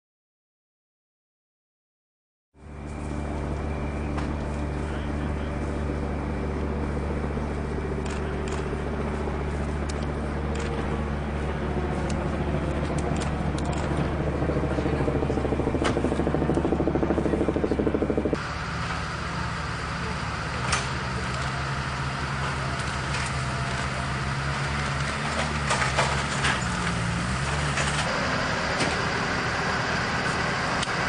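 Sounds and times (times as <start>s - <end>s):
engine idling: 2.6s - 31.0s.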